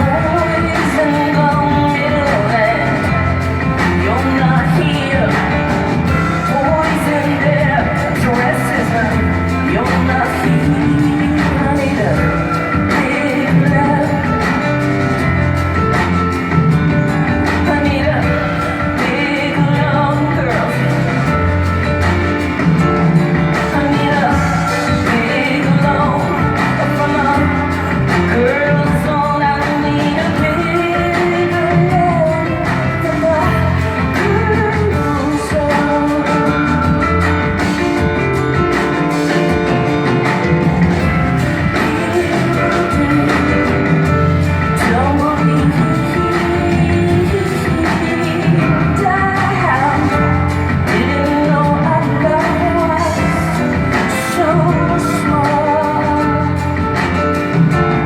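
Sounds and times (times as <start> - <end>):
band playing a repeating beat: 0.0 - 58.0
woman singing: 0.0 - 58.0.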